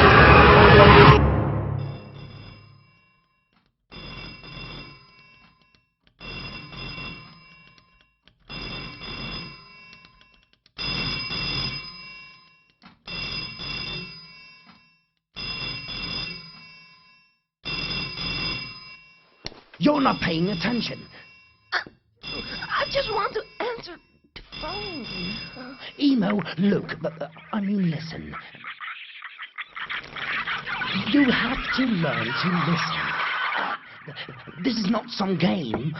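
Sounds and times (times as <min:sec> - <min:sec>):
telephone bell ringing: 0:00.0 - 0:35.9.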